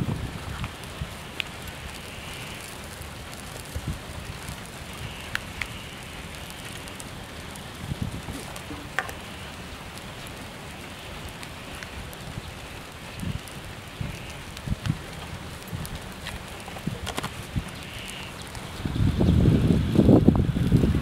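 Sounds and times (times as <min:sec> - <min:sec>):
low wind rumble: 0:00.0 - 0:21.0
outdoor hiss: 0:00.0 - 0:21.0.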